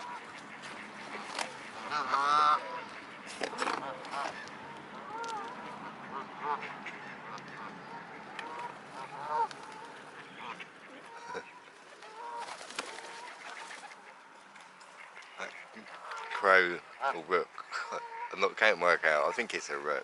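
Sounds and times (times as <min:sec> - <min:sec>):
waterfowl calling: 0:00.0 - 0:20.0.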